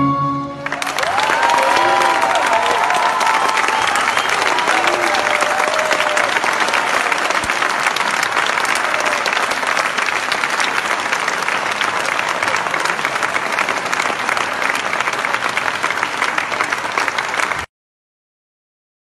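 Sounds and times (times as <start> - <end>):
crowd applauding: 0.6 - 17.7.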